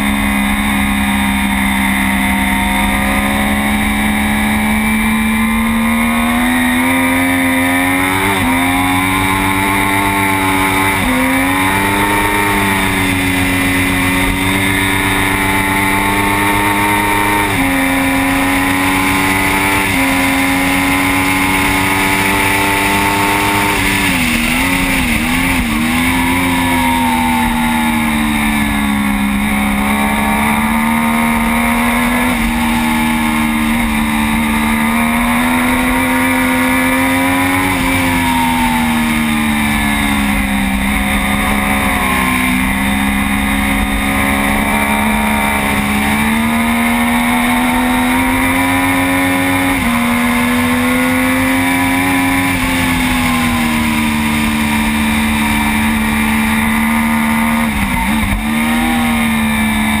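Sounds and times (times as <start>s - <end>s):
motorcycle engine running hard: 0.0s - 60.0s.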